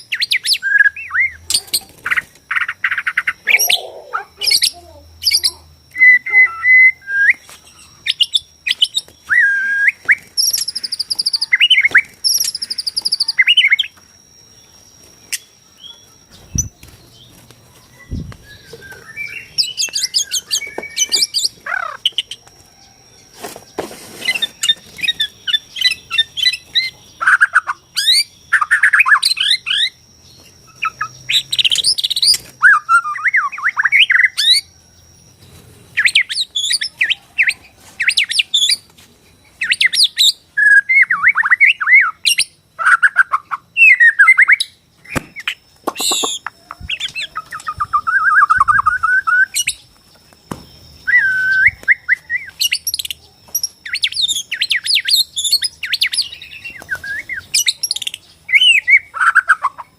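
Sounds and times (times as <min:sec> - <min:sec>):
bird singing whistles and trills: 0:00.0 - 0:59.9
faint steady high tone: 0:00.0 - 0:59.9.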